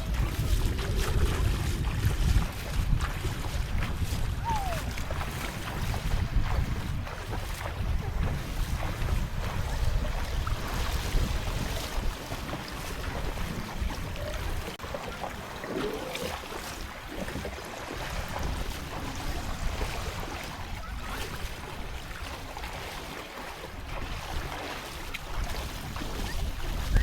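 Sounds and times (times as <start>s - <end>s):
sea waves: 0.0s - 27.0s
wind buffeting microphone: 0.0s - 27.0s.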